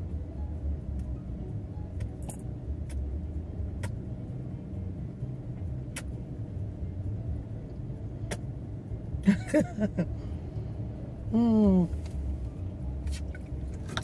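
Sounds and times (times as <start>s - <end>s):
low rumble inside vehicle cab: 0.0s - 14.0s.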